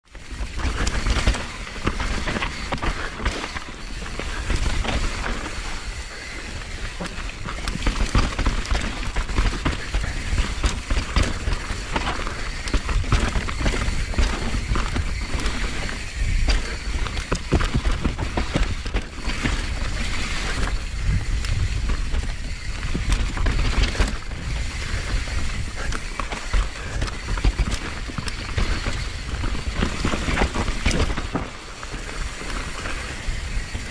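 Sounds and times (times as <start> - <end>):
bike chain and frame rattling: 0.0 - 33.9
tyres crunching over dirt: 0.0 - 33.9
wind buffeting microphone: 0.2 - 33.9.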